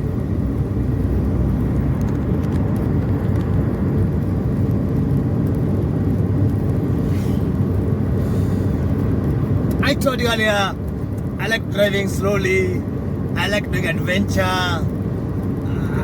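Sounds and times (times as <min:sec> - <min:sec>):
car engine rumble: 0:00.0 - 0:16.0
tyres on the road: 0:00.0 - 0:16.0.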